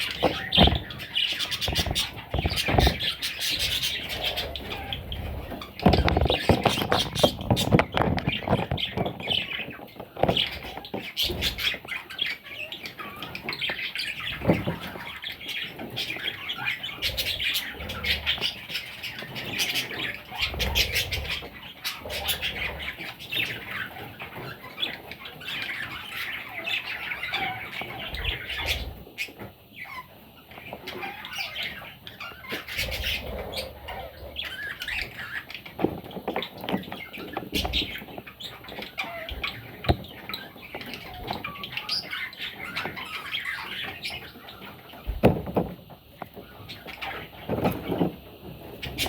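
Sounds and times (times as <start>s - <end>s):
parrot chicks squawking and chirping: 0.0s - 49.0s.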